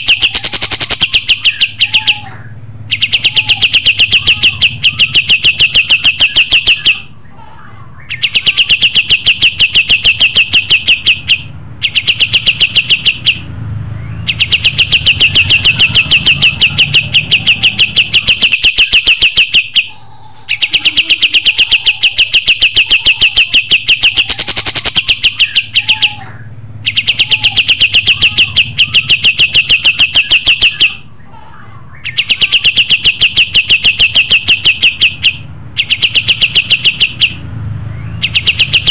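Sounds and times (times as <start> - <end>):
songbird trilling: 0.0 - 7.2, 8.0 - 31.1, 31.9 - 38.9.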